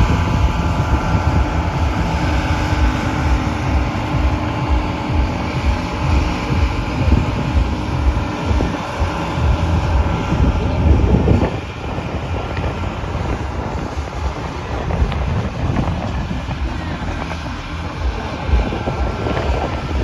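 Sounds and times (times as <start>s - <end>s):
tractor engine rumbling: 0.0s - 20.0s
wind buffeting microphone: 0.0s - 20.0s.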